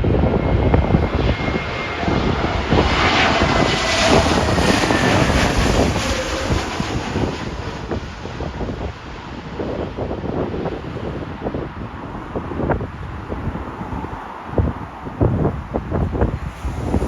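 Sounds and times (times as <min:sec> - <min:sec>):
jet airliner passing overhead: 0:00.0 - 0:17.0
wind buffeting microphone: 0:00.0 - 0:17.0.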